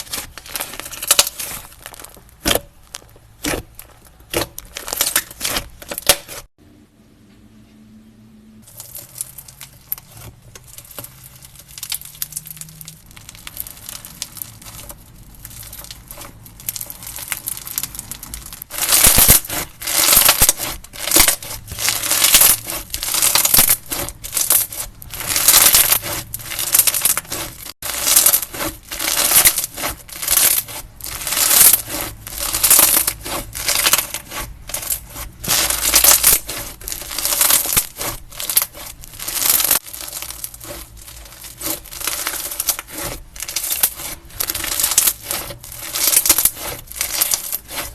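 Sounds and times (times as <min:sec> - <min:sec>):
crunchy crackling of slime: 0:00.0 - 0:06.5, 0:08.6 - 0:47.9.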